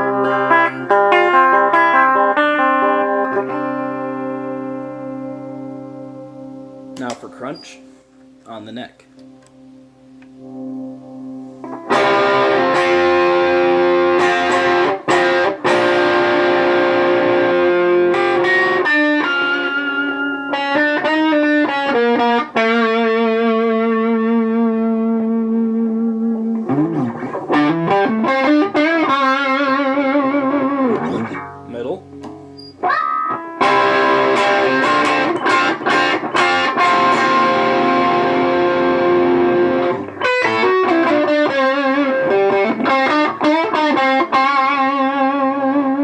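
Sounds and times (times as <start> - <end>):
overdriven electric guitar: 0.0 - 7.2, 9.1 - 46.0.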